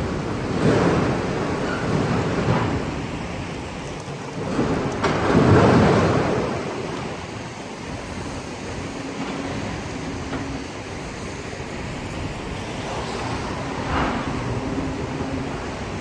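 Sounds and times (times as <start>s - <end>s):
vehicles passing on wet road: 0.0s - 16.0s.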